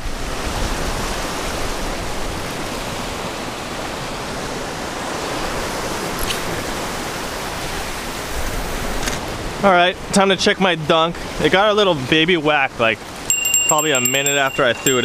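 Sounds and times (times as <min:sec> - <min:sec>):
ocean surf on rocky shore: 0:00.0 - 0:15.0.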